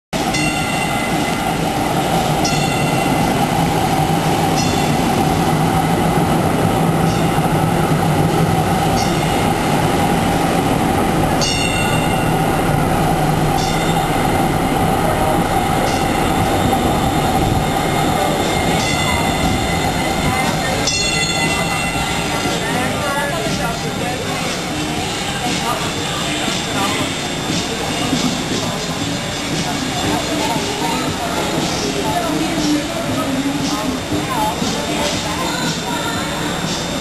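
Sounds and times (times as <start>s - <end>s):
train rolling and motor hum: 0.2s - 37.0s.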